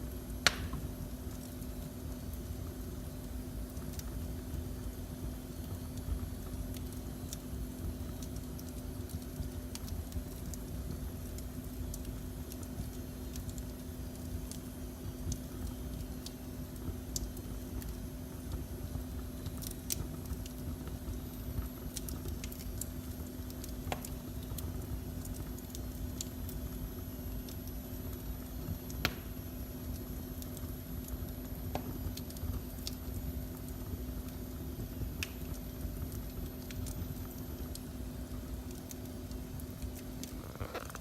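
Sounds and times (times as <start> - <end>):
faint steady hum: 0.0 - 41.0
fire crackling and popping: 0.0 - 41.0
low fire rumble: 0.0 - 41.0.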